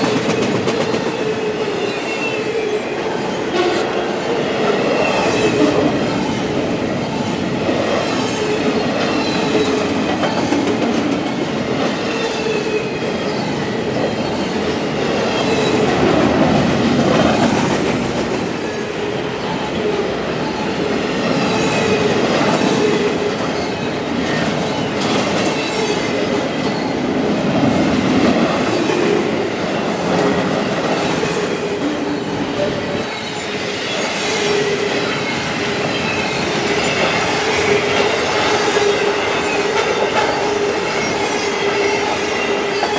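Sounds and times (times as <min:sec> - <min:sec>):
steel wheels roaring on rail: 0:00.0 - 0:42.9.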